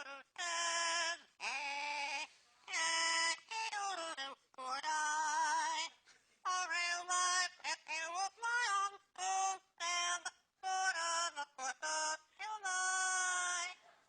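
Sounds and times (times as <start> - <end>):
parrot singing: 0.0 - 13.8.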